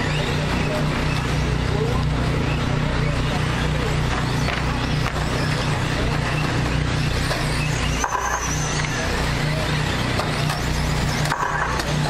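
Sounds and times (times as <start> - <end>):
rc truck motor whine: 0.0 - 12.0
track noise: 0.0 - 12.0.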